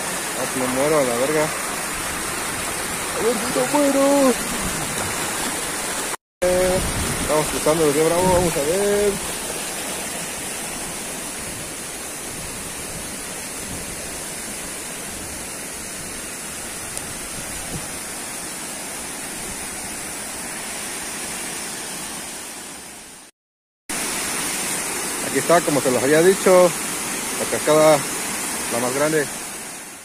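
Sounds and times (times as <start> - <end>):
waterfall rushing: 0.0 - 23.0, 23.9 - 30.0.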